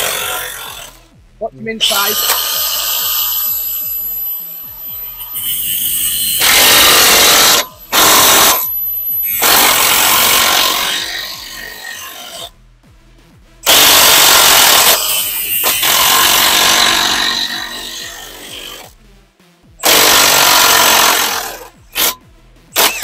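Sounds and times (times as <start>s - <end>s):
angle grinder cutting metal: 0.0s - 1.0s, 1.8s - 12.5s, 13.6s - 18.9s, 19.8s - 22.2s, 22.8s - 23.0s.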